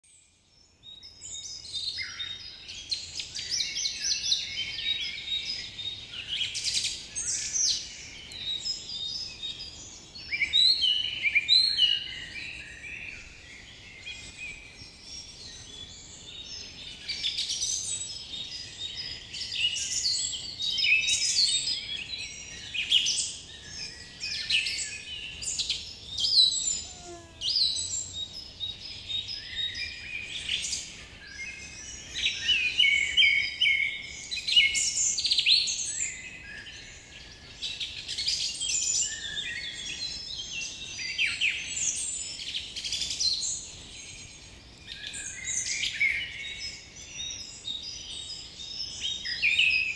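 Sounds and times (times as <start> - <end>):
songbirds chirping and trilling: 0.0 - 49.9.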